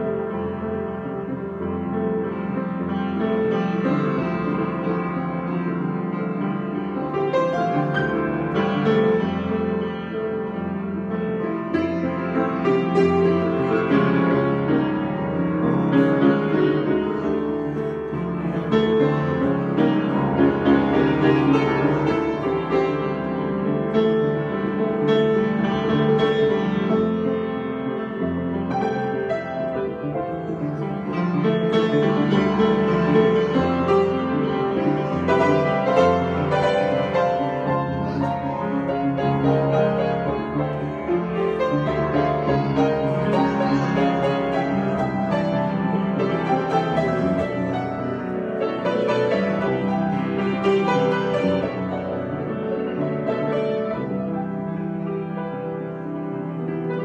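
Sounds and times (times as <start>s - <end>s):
solo piano improvisation: 0.0s - 57.0s.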